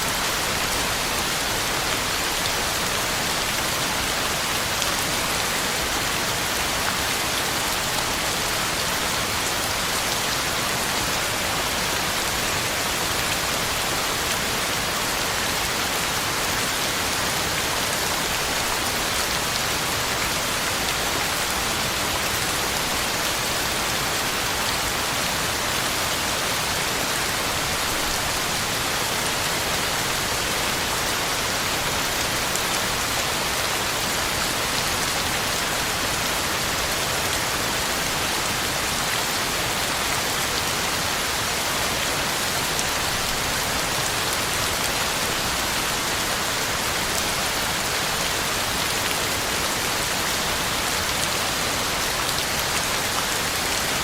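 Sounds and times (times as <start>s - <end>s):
heavy rain on ground and leaves: 0.0s - 54.0s.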